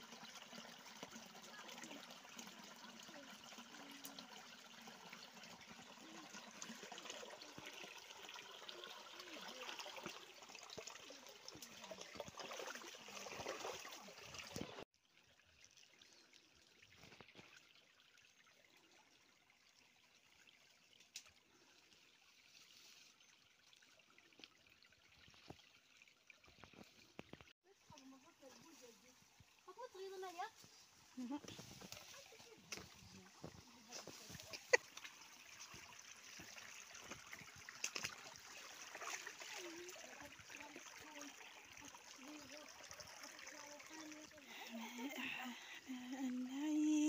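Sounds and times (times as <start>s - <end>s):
stream trickling over stones: 0.0s - 47.0s.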